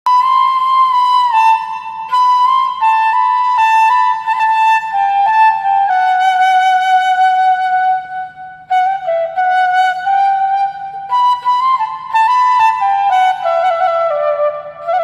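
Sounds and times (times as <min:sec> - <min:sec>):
slow flute melody: 0:00.1 - 0:15.0.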